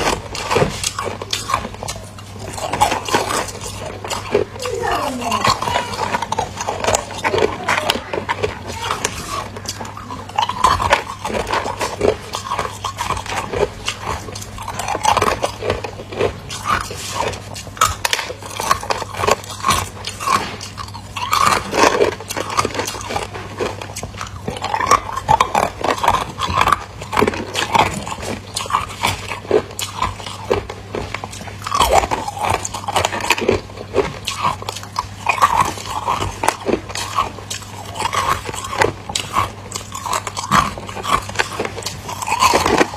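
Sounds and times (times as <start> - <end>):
person crunching ice: 0.0 - 42.9.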